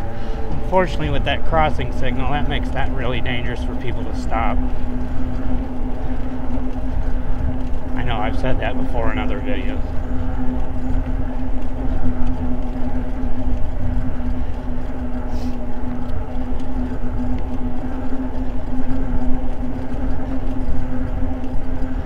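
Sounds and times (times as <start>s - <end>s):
e-bike motor and tyres humming: 0.0s - 22.0s
wind rumble on microphone: 0.0s - 22.0s.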